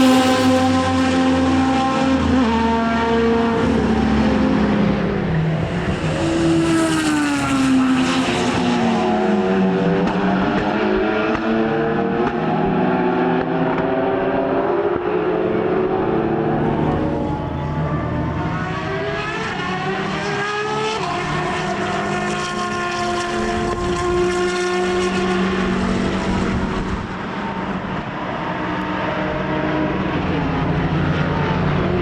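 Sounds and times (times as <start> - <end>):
racing car engine accelerating: 0.0 - 32.0
second racing car engine: 0.0 - 32.0.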